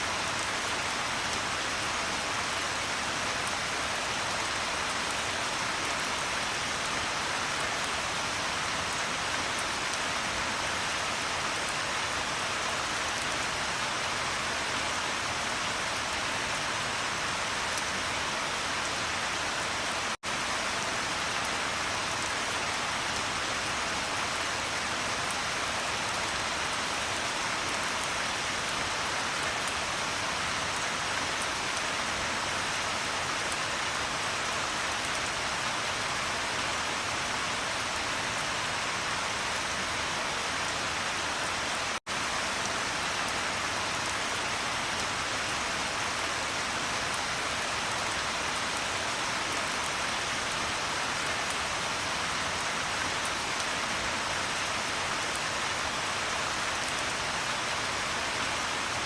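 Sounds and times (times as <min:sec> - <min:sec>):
dense rain falling: 0:00.0 - 0:59.0.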